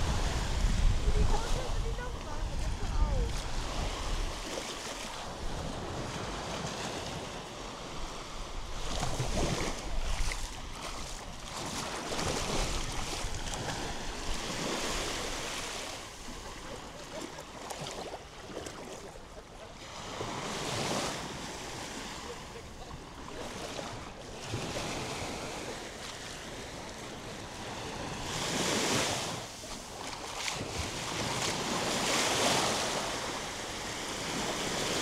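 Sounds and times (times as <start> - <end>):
waves breaking on sandy beach: 0.0 - 35.0.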